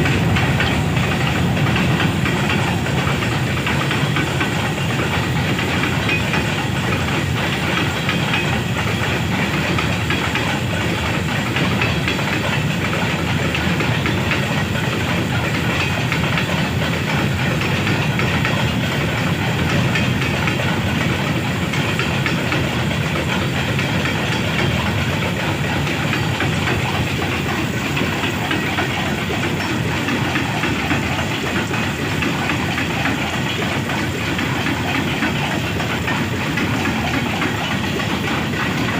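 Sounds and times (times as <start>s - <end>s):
freight train rolling on rails: 0.0s - 38.9s.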